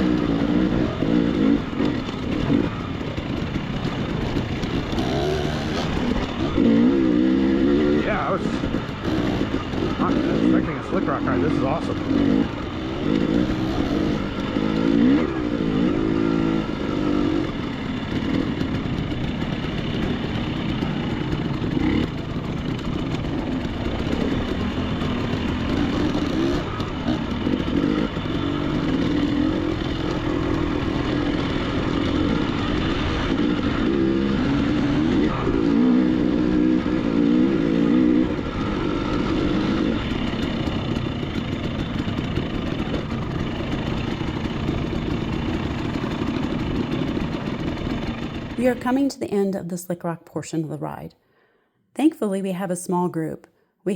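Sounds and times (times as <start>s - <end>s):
dirt bike engine revving: 0.0s - 49.6s.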